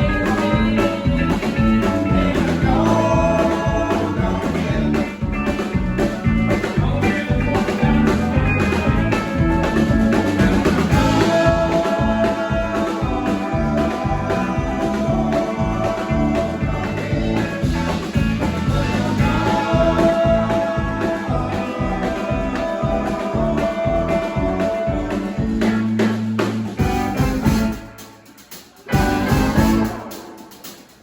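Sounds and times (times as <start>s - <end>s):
blues-rock band playing: 0.0s - 31.0s
electric guitar: 0.0s - 31.0s.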